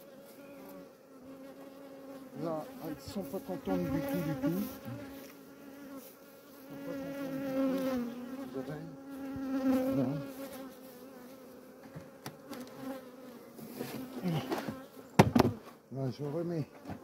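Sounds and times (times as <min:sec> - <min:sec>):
bees buzzing: 0:00.0 - 0:15.7.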